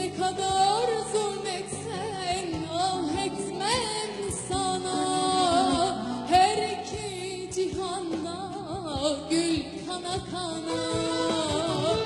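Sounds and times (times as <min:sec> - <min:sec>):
violin: 0:00.0 - 0:12.0
kanun melody: 0:00.2 - 0:12.0.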